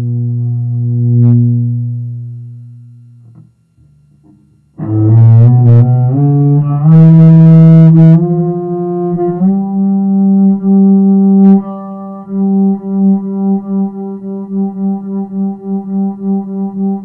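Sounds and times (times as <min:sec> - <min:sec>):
double bass notes: 0:00.0 - 0:17.0.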